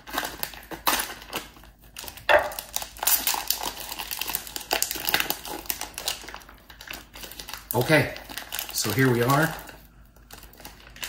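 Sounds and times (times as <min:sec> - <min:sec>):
plastic package crinkling: 0:00.0 - 0:11.0.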